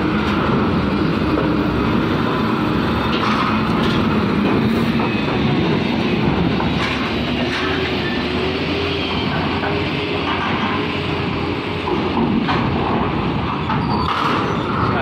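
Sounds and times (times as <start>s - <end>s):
diesel truck engine rumble: 0.0s - 15.0s.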